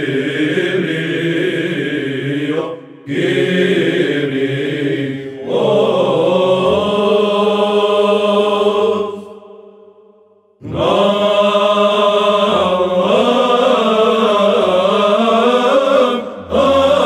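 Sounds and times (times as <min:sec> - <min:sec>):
male choir chanting: 0:00.0 - 0:09.8, 0:10.6 - 0:17.0.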